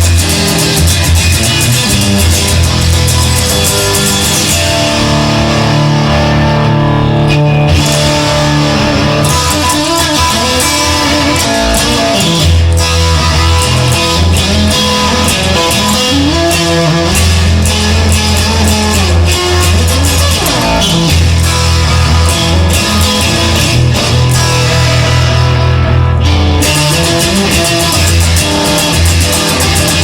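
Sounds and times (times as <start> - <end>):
instrumental rock music: 0.0 - 30.0.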